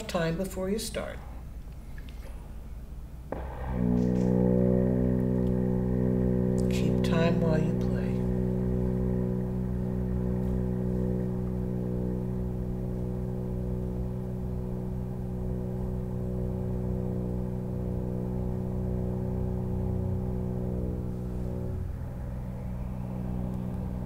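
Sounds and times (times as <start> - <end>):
french horn low held note: 3.3 - 24.0.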